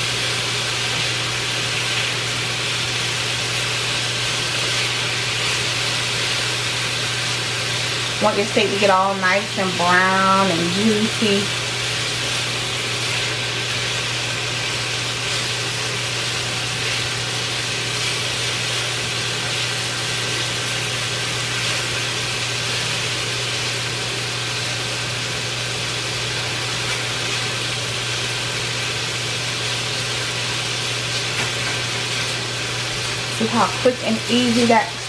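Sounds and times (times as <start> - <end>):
kitchen fan humming: 0.0 - 35.0
steak sizzling in a pan: 0.0 - 35.0.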